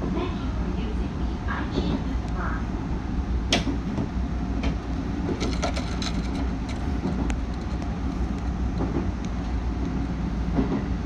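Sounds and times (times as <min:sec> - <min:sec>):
train wheels and motors rumbling: 0:00.0 - 0:11.0.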